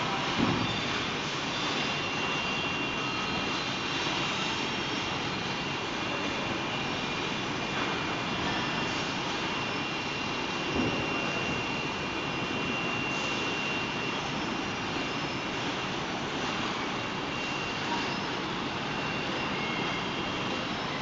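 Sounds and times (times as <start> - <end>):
machinery and conveyors whirring: 0.0 - 21.0.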